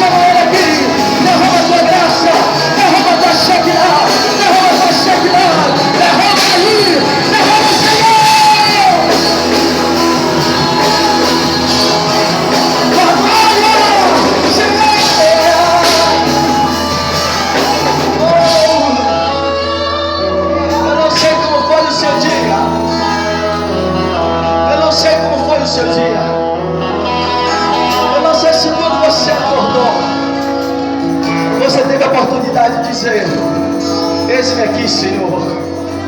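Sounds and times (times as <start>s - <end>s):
band with guitar: 0.0s - 36.0s
person singing: 0.0s - 36.0s.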